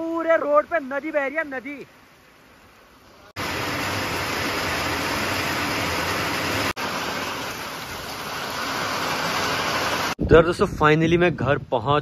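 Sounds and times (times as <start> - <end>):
heavy rain pouring: 0.0 - 10.2.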